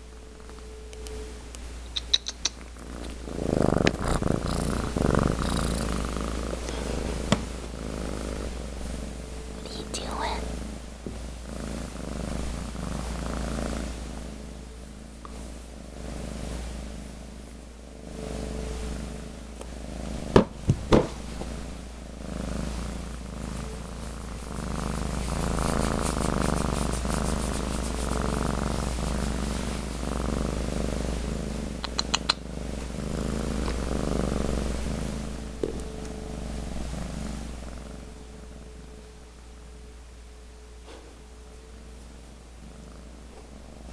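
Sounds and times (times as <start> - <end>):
cat purring: 1.9 - 39.8, 41.8 - 43.9.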